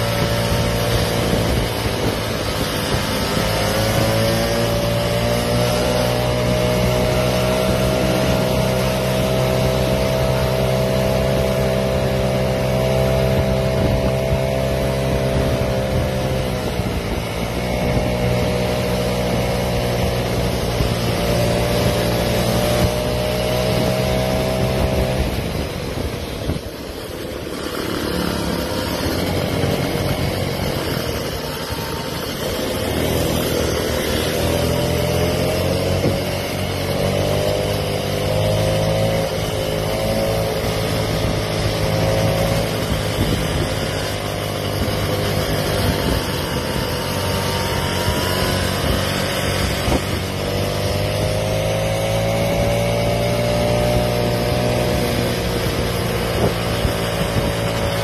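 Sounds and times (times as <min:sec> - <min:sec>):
motorized scooter running: 0:00.0 - 0:58.0
road and wind noise: 0:00.0 - 0:58.0.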